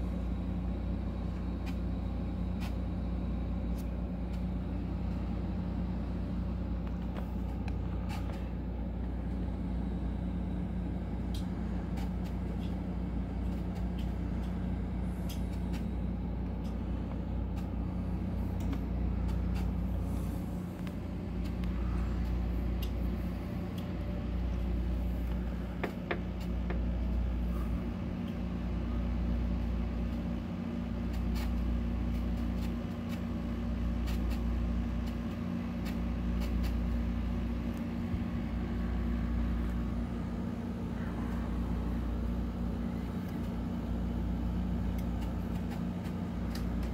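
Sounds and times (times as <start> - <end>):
ceiling fan humming: 0.0 - 46.9.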